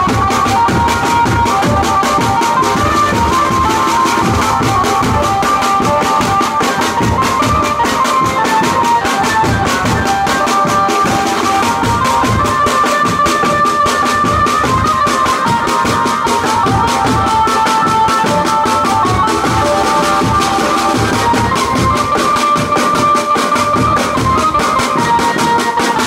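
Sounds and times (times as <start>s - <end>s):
amplified benjo melody: 0.0s - 26.0s
fast drum beat: 0.0s - 26.0s.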